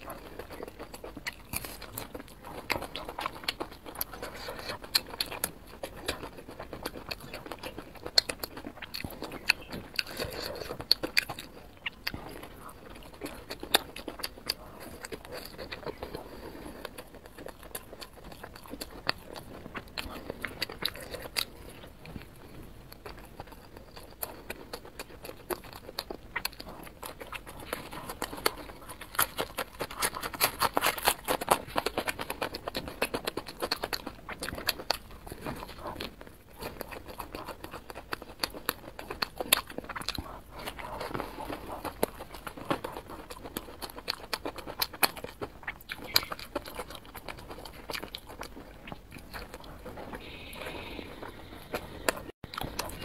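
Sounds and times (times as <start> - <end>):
chewing and biting food: 0.0 - 53.0.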